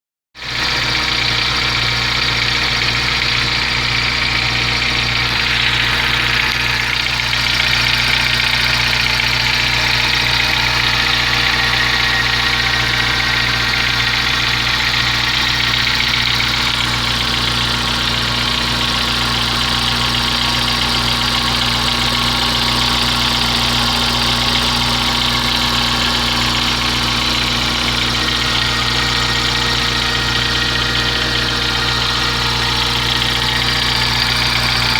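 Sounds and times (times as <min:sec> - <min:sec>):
car engine idling: 0:00.4 - 0:34.9.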